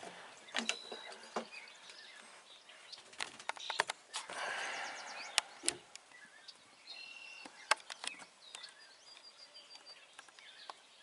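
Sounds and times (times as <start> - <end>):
small bird chirping: 0.4 - 11.0.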